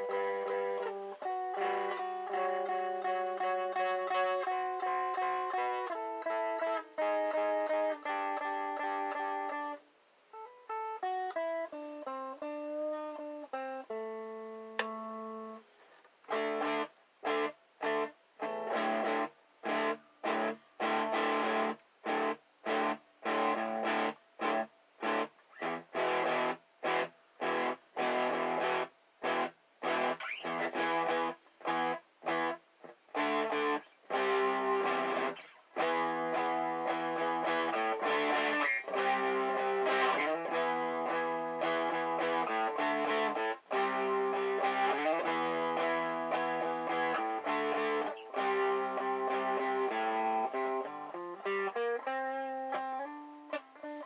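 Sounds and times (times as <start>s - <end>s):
electric guitar single notes: 0.0s - 9.8s, 10.4s - 15.6s, 16.3s - 54.0s
staccato electric guitar chords: 0.0s - 9.8s, 16.3s - 53.8s.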